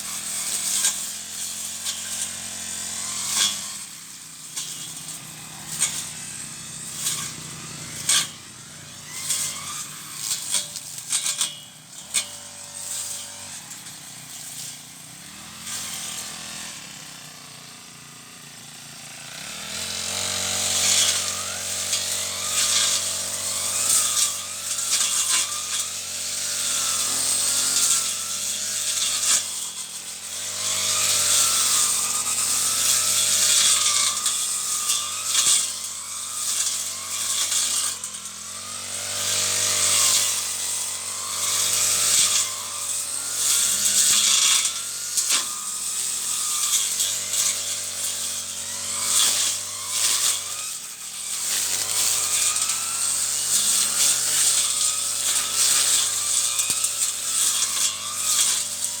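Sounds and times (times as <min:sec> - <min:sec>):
brush cutter engine running: 0:00.0 - 0:59.0.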